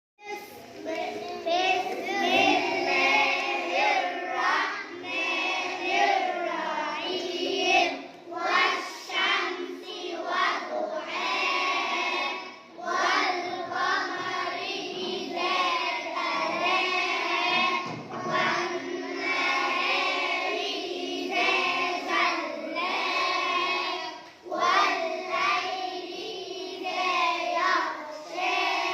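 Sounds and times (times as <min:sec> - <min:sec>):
children chanting in unison: 0:00.2 - 0:28.9.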